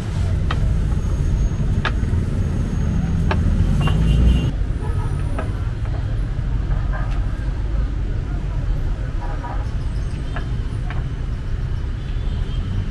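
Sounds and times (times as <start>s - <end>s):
rumble of passing vehicles: 0.0s - 12.9s.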